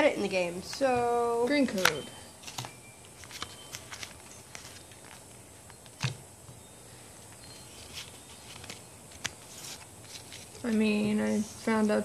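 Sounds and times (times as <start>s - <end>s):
trading cards being handled: 0.6s - 11.4s.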